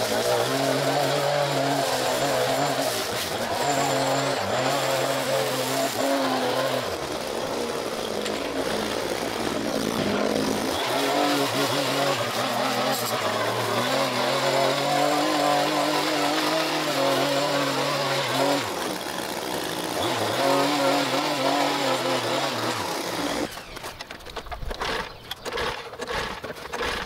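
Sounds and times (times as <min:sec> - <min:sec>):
gas string trimmer cutting grass: 0:00.0 - 0:27.0.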